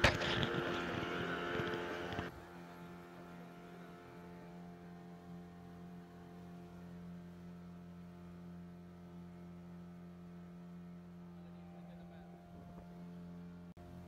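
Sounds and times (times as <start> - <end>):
motorboat engine humming: 0.0 - 14.0.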